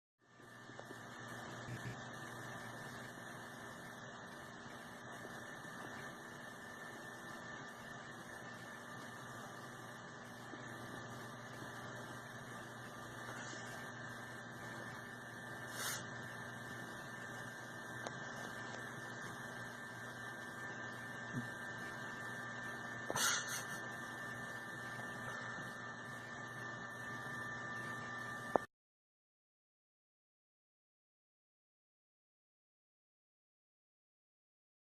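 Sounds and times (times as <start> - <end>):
electrical hum with hiss: 0.2 - 28.7.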